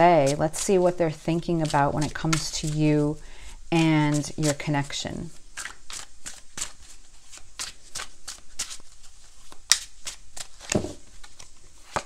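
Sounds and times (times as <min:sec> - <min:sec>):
cards being shuffled: 0:00.2 - 0:03.2, 0:04.1 - 0:12.0.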